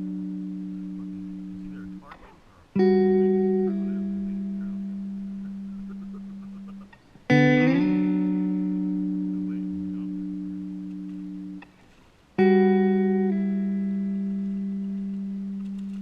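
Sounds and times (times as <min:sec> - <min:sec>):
slow electric guitar chords: 0:00.0 - 0:16.0.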